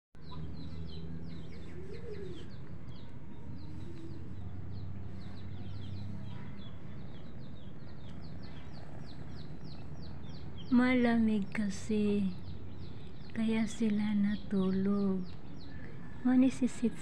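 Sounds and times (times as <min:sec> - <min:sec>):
small birds chirping: 0:00.2 - 0:17.0
steady low hum: 0:00.2 - 0:17.0.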